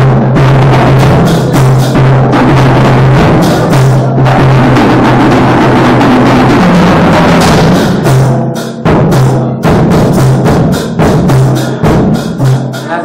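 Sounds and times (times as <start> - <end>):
drums beating: 0.0 - 13.0.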